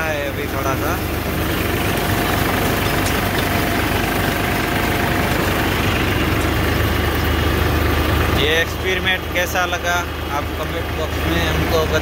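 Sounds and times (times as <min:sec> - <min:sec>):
tractor diesel engine under load: 0:00.0 - 0:12.0
rotavator churning soil: 0:00.1 - 0:12.0.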